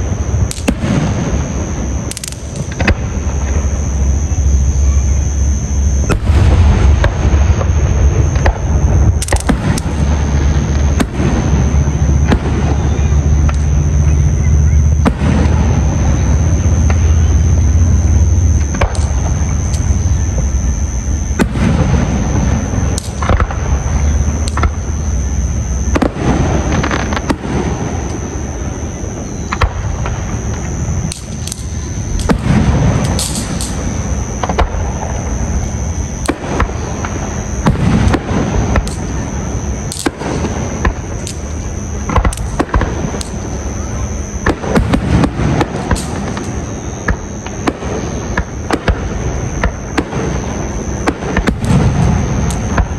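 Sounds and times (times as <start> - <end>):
fireworks booming and crackling: 0.0 - 52.9
steady high-pitched tone: 0.0 - 52.9.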